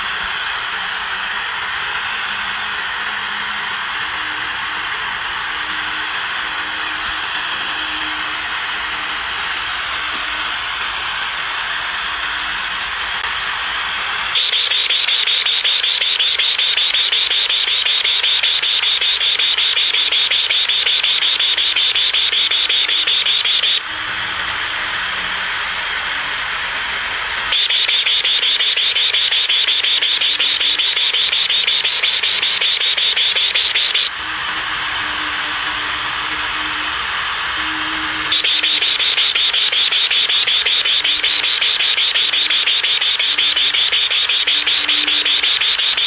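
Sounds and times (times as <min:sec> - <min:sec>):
radio static hiss: 0:00.0 - 0:46.0
rapidly pulsing high buzz: 0:00.0 - 0:46.0.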